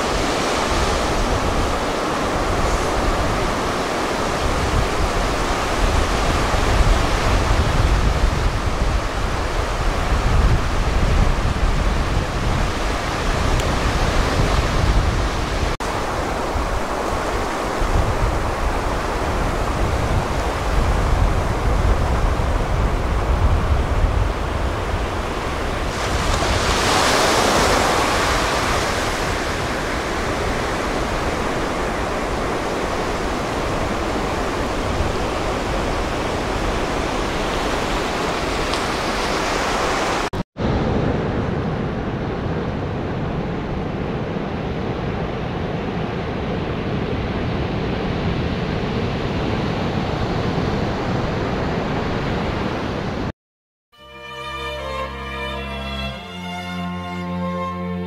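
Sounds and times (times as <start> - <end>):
waves breaking on beach: 0.0 - 53.3
wind buffeting microphone: 0.0 - 53.3.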